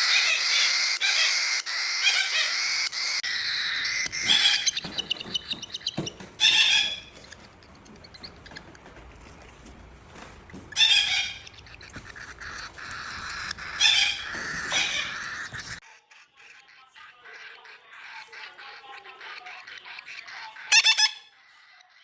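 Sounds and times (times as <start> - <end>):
bird harsh calls: 0.0 - 22.0.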